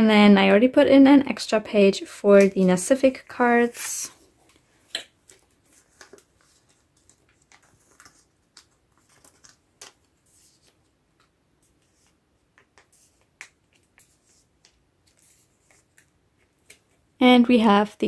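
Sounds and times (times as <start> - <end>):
plastic sleeves rustling and clicking: 2.3 - 17.1.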